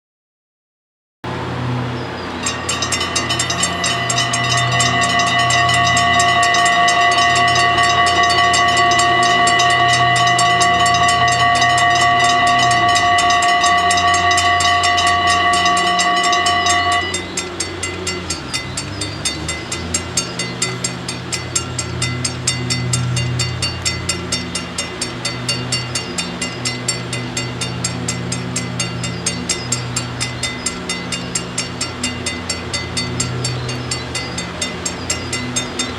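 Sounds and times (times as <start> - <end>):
train rumbling past: 1.2 - 35.9
level crossing bells ringing: 2.2 - 35.9
steady multi-pitched whine: 2.4 - 35.9.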